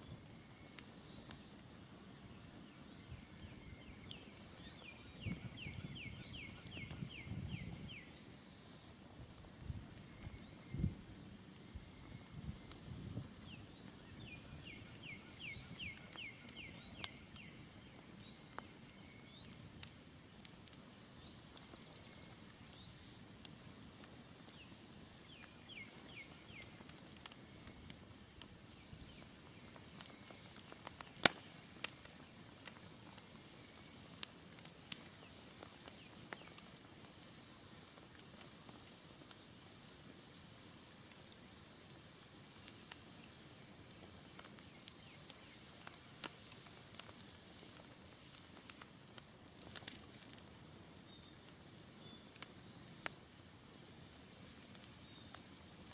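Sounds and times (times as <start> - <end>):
campfire crackling and popping: 0.0 - 55.9
faint fire hiss: 0.0 - 55.9.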